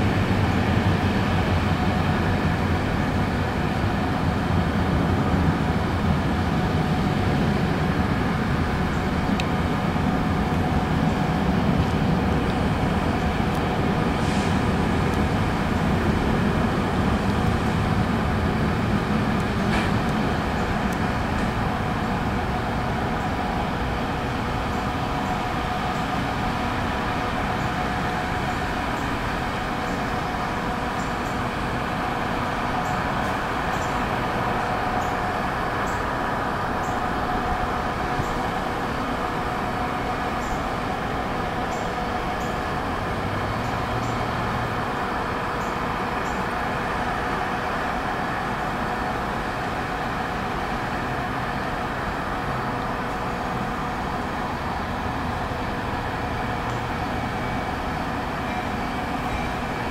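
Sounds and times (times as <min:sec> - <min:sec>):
diesel locomotive drone: 0:00.0 - 0:59.9.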